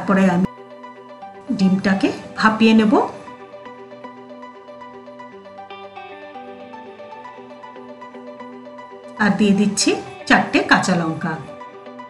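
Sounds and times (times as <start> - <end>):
light background melody: 0.0 - 12.0.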